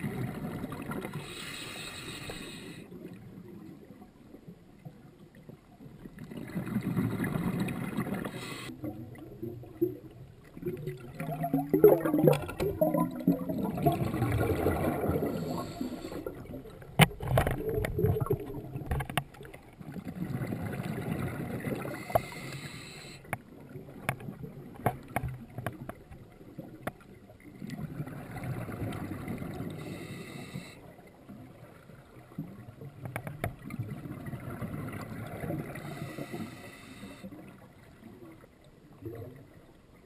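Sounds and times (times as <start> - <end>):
exhaled bubbles gurgling underwater: 0.0 - 40.0.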